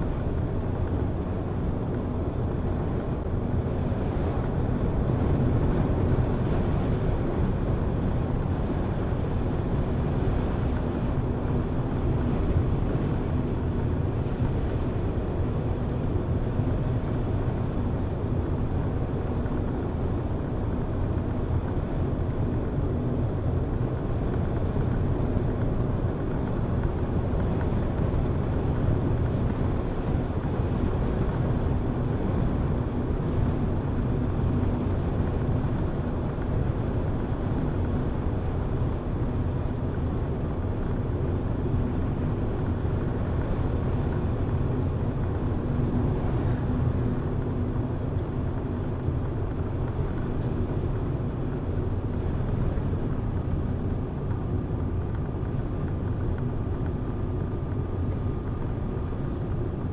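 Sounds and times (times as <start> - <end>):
car engine hum: 0.0 - 59.9.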